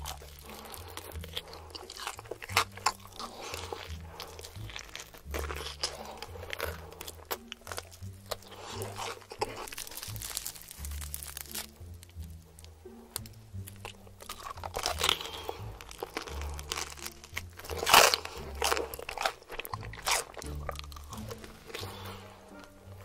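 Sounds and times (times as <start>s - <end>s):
background music with bass line: 0.0s - 23.0s
crunchy chewing: 0.0s - 23.0s.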